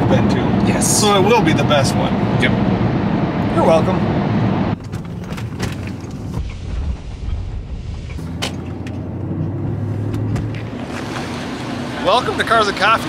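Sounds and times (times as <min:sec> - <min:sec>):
car engine hum: 0:00.0 - 0:13.0
road rumble inside car: 0:00.0 - 0:13.0.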